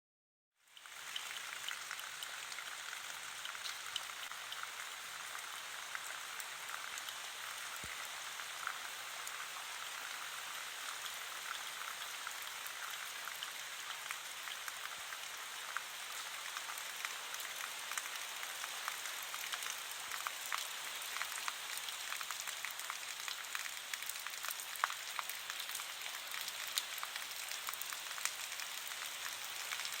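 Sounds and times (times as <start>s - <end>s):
steady rain with drops ticking: 0.6s - 30.0s.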